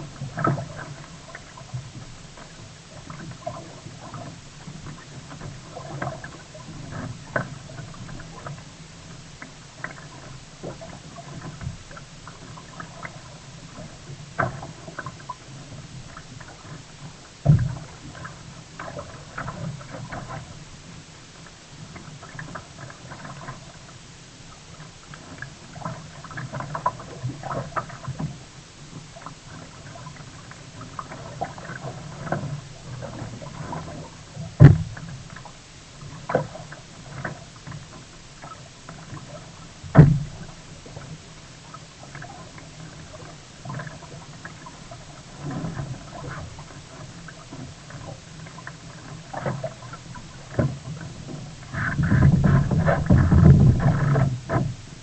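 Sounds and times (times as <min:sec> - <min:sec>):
water splashing around kayak: 0:00.0 - 0:55.0.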